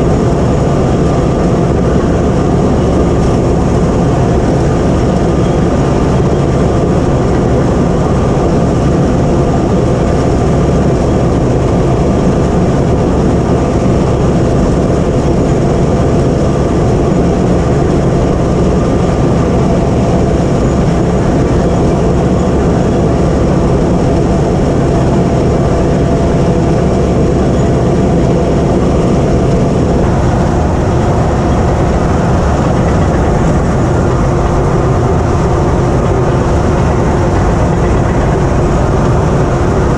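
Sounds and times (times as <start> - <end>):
bulldozer diesel engine running: 0.0 - 39.9
steel tracks rattling: 0.0 - 39.9.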